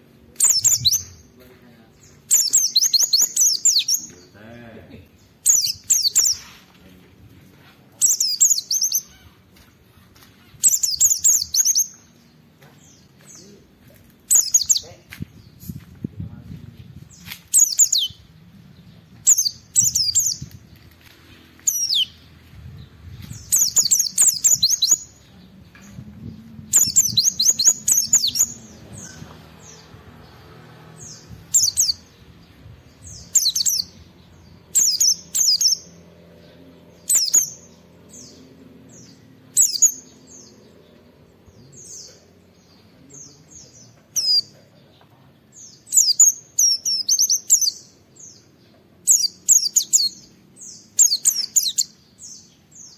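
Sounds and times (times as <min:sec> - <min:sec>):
bird chirping rapidly: 0:00.3 - 0:04.4, 0:05.1 - 0:06.6, 0:08.0 - 0:13.4, 0:14.2 - 0:15.8, 0:17.1 - 0:20.7, 0:21.5 - 0:25.3, 0:26.7 - 0:36.1, 0:36.9 - 0:44.5, 0:45.5 - 0:52.9.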